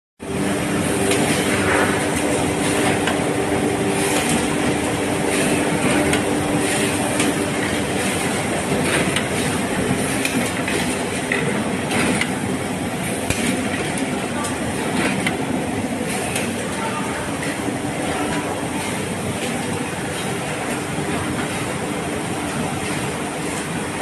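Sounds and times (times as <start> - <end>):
machine mechanical hum: 0.2 - 24.0.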